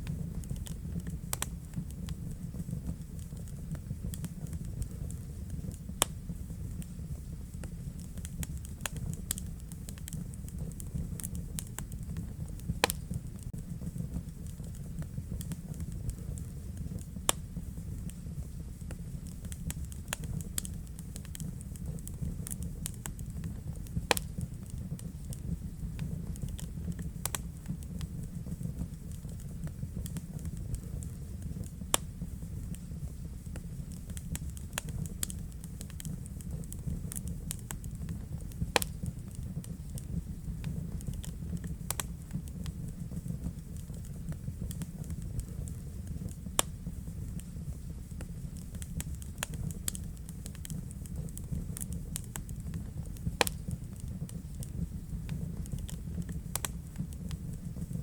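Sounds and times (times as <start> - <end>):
fire crackles and pops: 0.0 - 58.0
low rumble of flame: 0.0 - 58.0.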